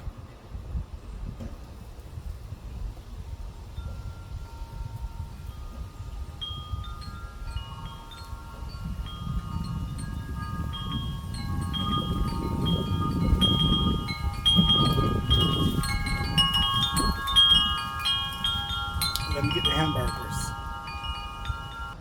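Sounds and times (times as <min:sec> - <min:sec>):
wind rumbling on microphone: 0:00.0 - 0:22.0
wind chimes ringing: 0:03.7 - 0:22.0.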